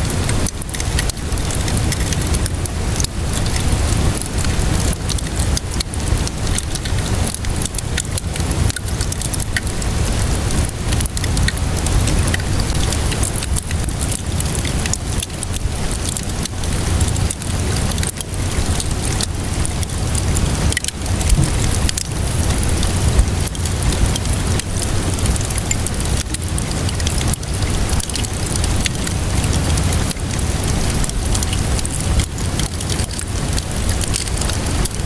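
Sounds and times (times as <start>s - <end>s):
rainfall hiss: 0.0s - 35.0s
wood fire crackling: 0.0s - 35.0s.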